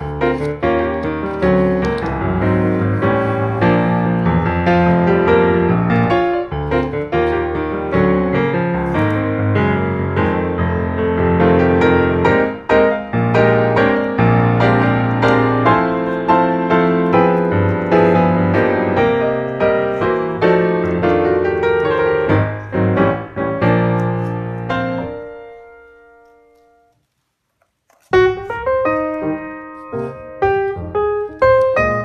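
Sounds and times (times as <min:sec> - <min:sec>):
piano notes and chords: 0:00.0 - 0:32.0.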